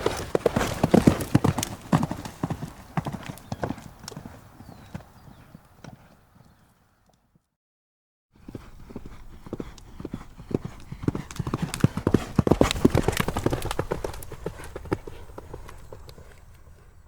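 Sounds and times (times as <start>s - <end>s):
horses galloping hoofbeats: 0.0s - 6.7s, 8.4s - 17.0s.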